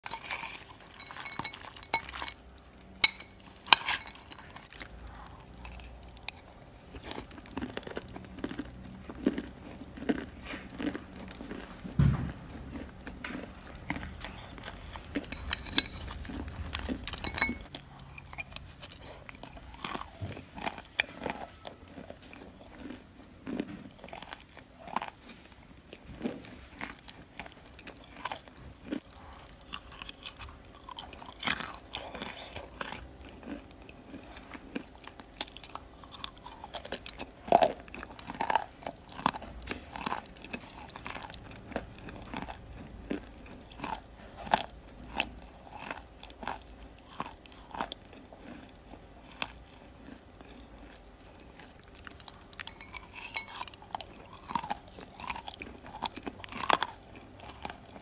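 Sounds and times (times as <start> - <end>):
wet clay chewing: 0.0 - 58.0.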